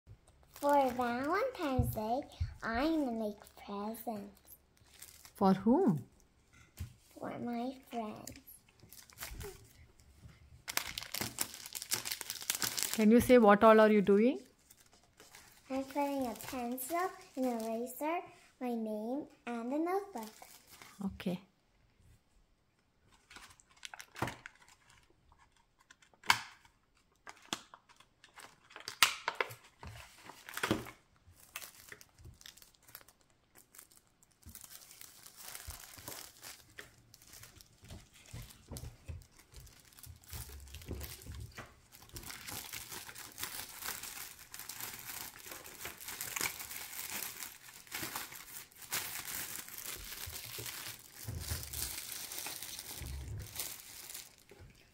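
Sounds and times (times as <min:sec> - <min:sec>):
cellophane bags crinkling: 0:00.3 - 0:01.8, 0:04.2 - 0:05.6, 0:08.0 - 0:10.0, 0:10.6 - 0:18.0, 0:20.1 - 0:21.1, 0:23.1 - 0:54.8.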